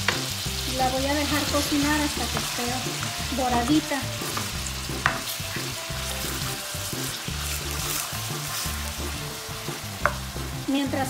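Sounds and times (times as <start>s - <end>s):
meat sizzling in hot oil: 0.0s - 11.0s
spatula stirring in pan: 1.1s - 10.6s.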